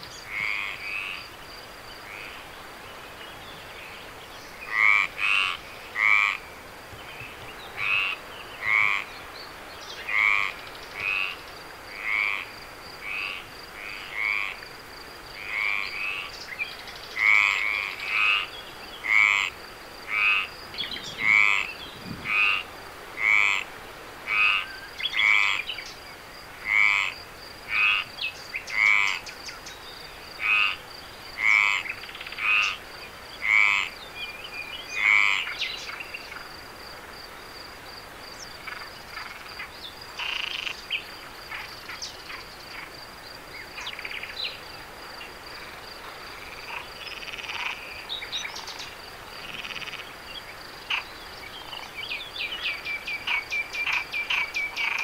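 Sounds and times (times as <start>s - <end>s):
frogs croaking: 0.0s - 55.0s.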